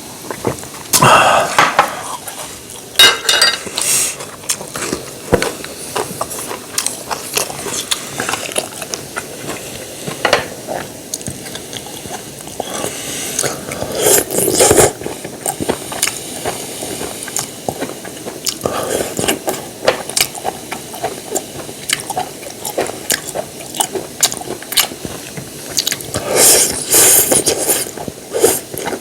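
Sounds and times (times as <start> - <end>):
chewing: 3.7 - 29.0.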